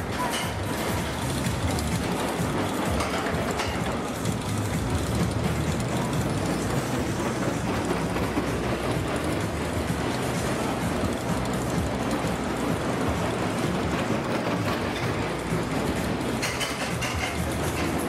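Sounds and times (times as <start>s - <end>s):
roller coaster rolling on track: 0.0s - 18.0s.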